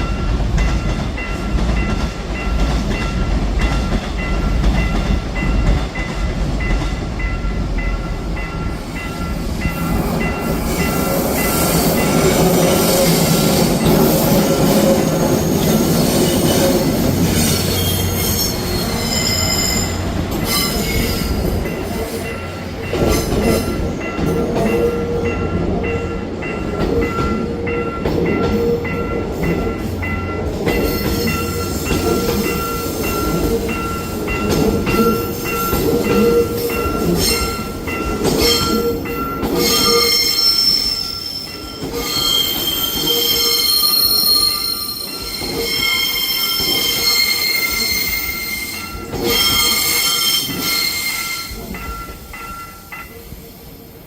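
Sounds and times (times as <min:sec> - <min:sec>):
level crossing warning bell: 0:00.0 - 0:53.5
train rumble: 0:00.0 - 0:54.0
train wheels squealing on rails: 0:00.0 - 0:54.0.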